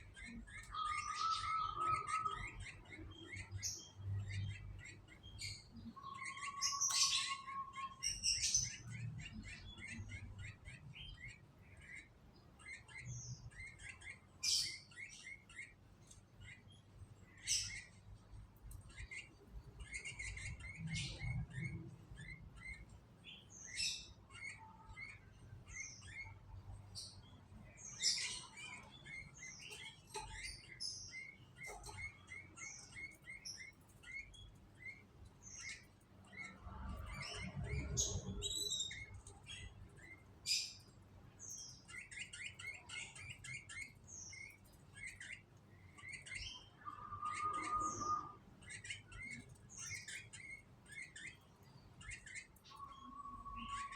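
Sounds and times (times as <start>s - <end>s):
canaries chirping: 0.0s - 53.9s.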